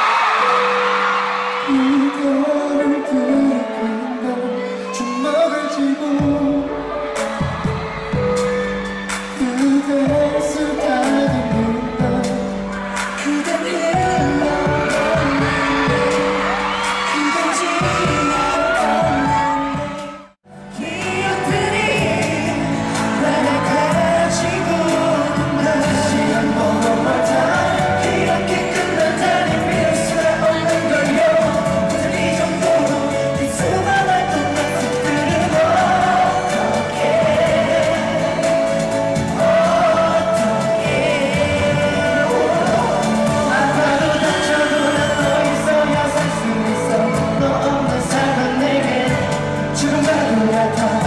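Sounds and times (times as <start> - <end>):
backing track over sound system: 0.0 - 51.0
men singing pop song live: 0.0 - 51.0.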